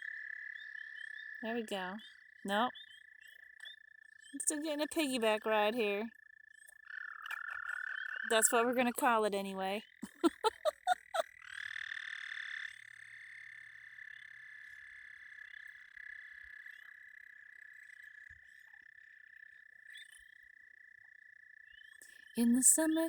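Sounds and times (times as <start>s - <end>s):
frogs trilling in chorus: 0.0s - 5.4s, 6.0s - 9.2s, 9.8s - 23.0s.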